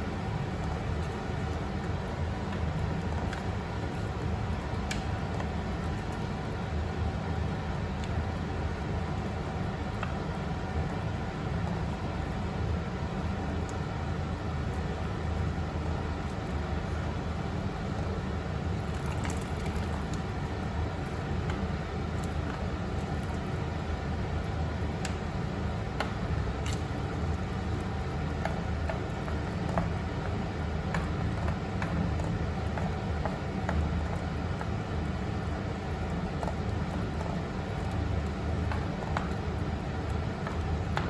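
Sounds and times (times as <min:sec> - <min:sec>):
pot of water boiling: 0:00.0 - 0:41.0.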